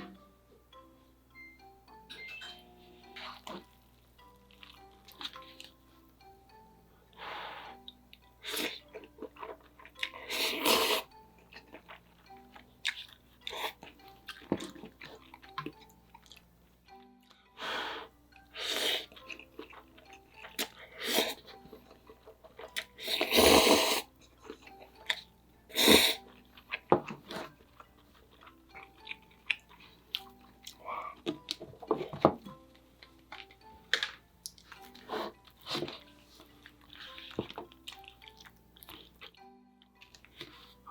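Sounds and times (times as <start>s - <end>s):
soft background music: 0.0s - 40.9s
eating and food handling noises: 3.0s - 17.6s, 18.4s - 40.9s.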